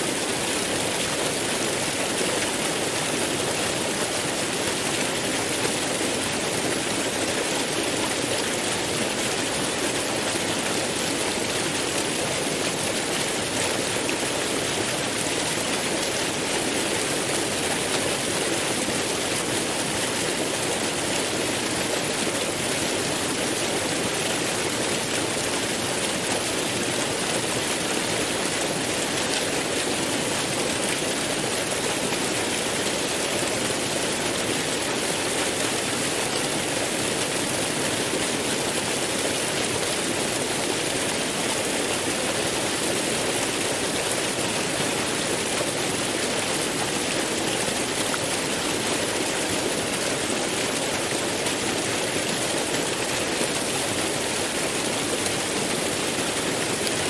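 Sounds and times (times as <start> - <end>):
waterfall pouring into pool: 0.0 - 57.0.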